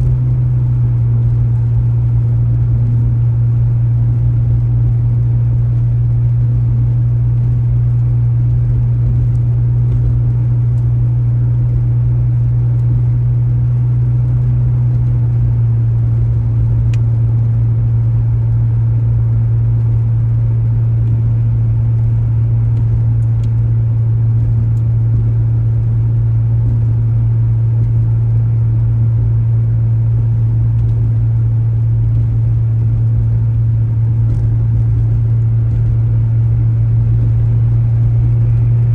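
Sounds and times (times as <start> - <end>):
car engine and road drone: 0.0 - 38.9.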